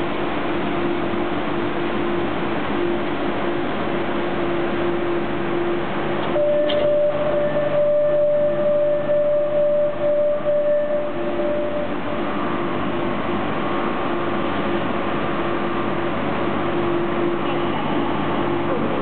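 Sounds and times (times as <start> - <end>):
electric train running noise: 0.0 - 19.0.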